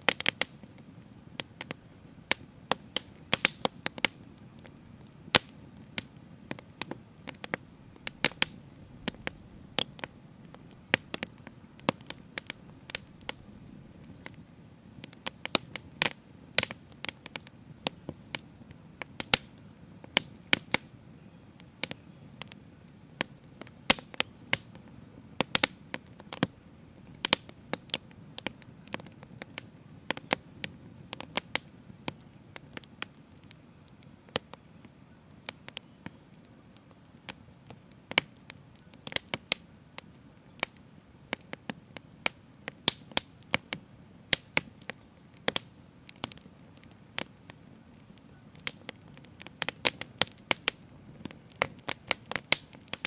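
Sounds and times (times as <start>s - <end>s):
fire crackling and popping: 0.0s - 53.0s
low rush of fire: 0.0s - 53.0s.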